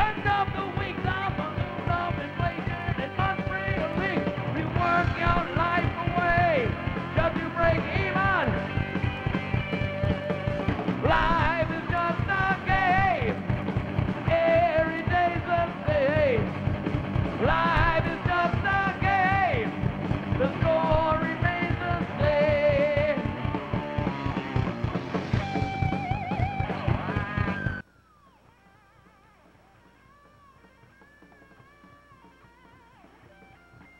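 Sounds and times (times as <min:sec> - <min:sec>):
bass guitar: 0:00.0 - 0:27.8
drum kit: 0:00.0 - 0:27.8
distorted electric guitar: 0:00.0 - 0:33.9
lead guitar with pitch bends: 0:00.0 - 0:33.9.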